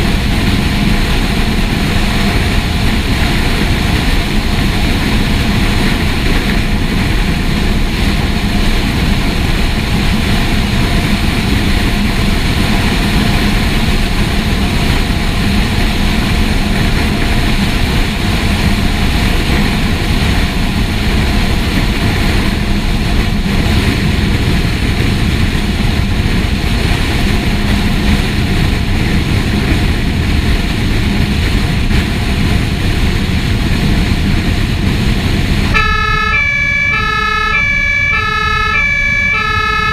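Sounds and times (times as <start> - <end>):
heavy truck engine droning: 0.0 - 39.9
road and wind noise: 0.0 - 39.9.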